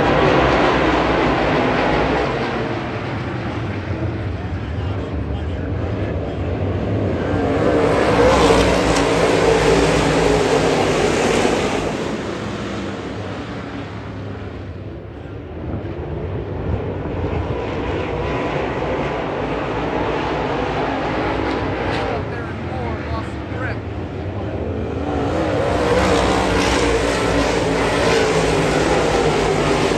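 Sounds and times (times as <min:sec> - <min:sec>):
race cars on track: 0:00.0 - 0:29.9.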